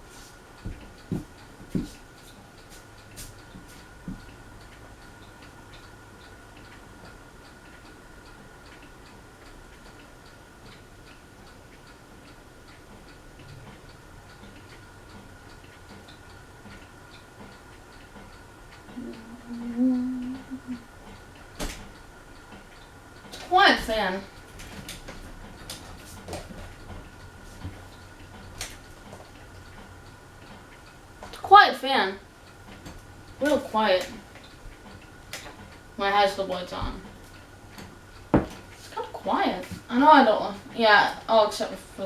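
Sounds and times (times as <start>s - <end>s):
ceiling fan humming and ticking: 0.0s - 42.0s.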